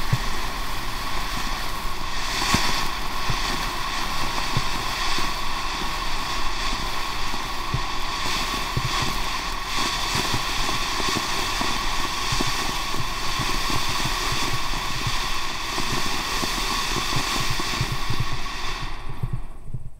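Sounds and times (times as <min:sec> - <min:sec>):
small firework pops: 0:00.0 - 0:19.4
firework fountain hissing: 0:00.0 - 0:19.9.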